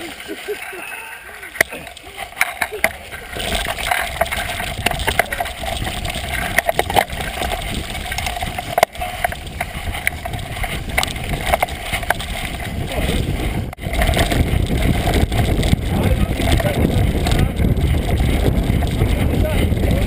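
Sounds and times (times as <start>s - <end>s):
tyres on mud and leaves: 0.0s - 20.0s
bike rattling over bumps: 1.5s - 20.0s
wind rumble on microphone: 1.8s - 20.0s.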